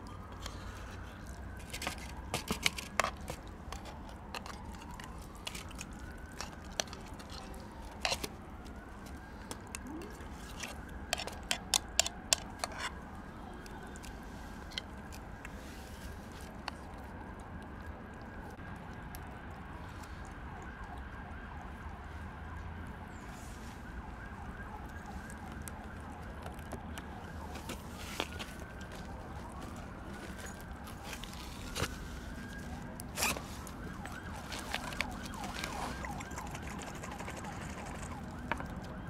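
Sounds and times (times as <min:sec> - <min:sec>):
cats chewing meat: 0:00.0 - 0:21.8, 0:24.4 - 0:39.0
siren wailing: 0:00.0 - 0:39.0.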